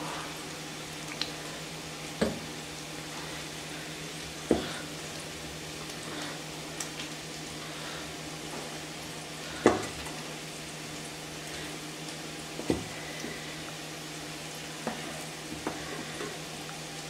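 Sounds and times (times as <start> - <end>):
steady hiss and low hum: 0.0 - 17.0.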